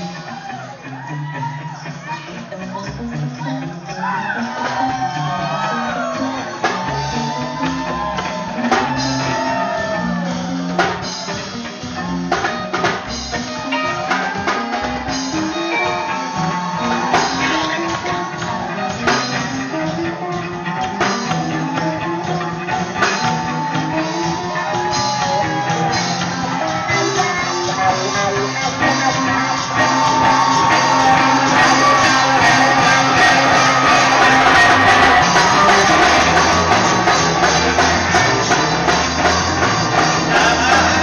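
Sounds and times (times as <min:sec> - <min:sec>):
bass line: 0:00.0 - 0:41.0
electric guitars: 0:00.0 - 0:41.0
live band playing: 0:00.0 - 0:41.0.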